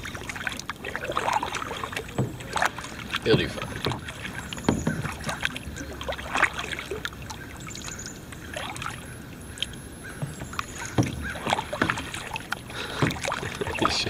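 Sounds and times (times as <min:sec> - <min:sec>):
moving water wash: 0:00.0 - 0:14.0
paddle splashing in water: 0:00.0 - 0:14.0.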